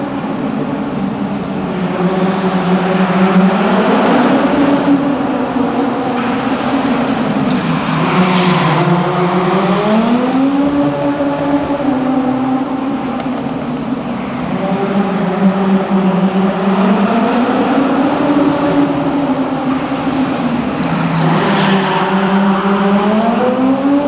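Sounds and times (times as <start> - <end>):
car engine revving: 0.2 - 24.0.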